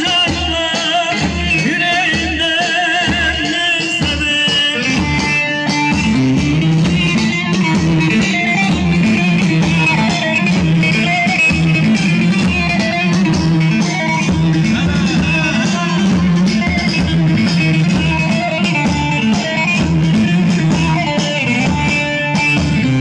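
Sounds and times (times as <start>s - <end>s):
live band playing dance music: 0.0s - 23.0s.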